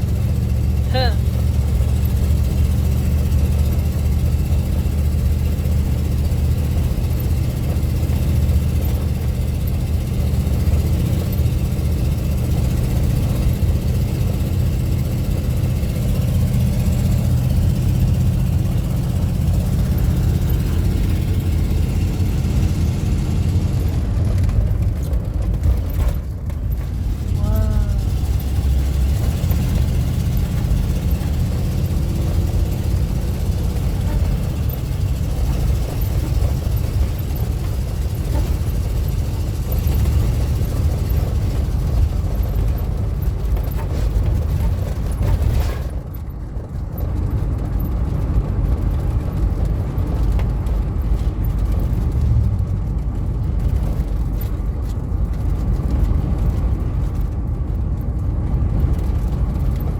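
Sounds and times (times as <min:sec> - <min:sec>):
car interior road and engine noise: 0:00.0 - 0:59.9.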